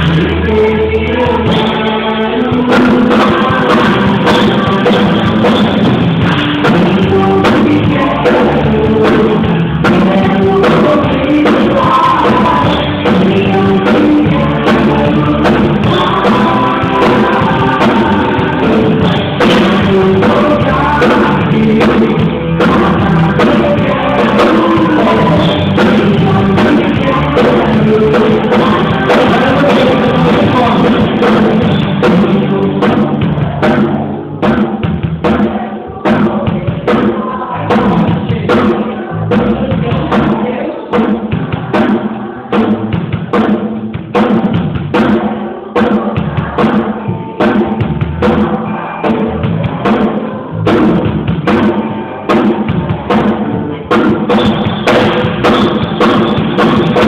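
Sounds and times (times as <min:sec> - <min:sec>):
band playing: 0:00.0 - 0:57.0
drum kit beat: 0:00.0 - 0:57.0
voices singing: 0:00.0 - 0:57.0.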